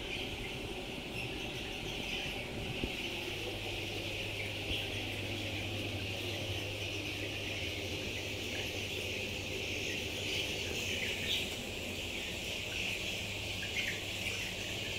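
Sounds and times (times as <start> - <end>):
hens chattering: 0.0 - 14.9
low hum: 0.0 - 14.9.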